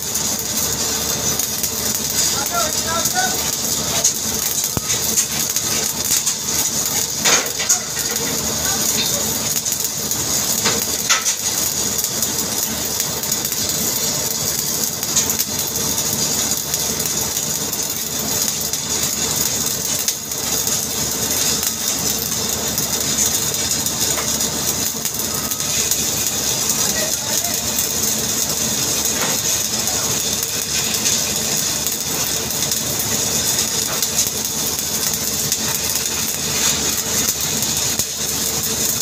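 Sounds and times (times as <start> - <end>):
welding arc crackling and hissing: 0.0 - 39.0.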